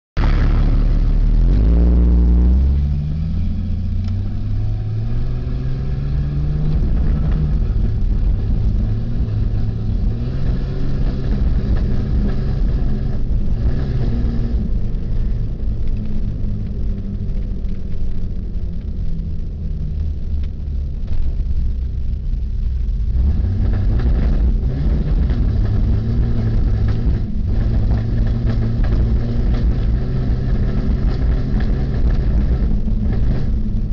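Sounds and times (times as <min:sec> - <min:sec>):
vehicle engine accelerating: 0:00.2 - 0:33.9.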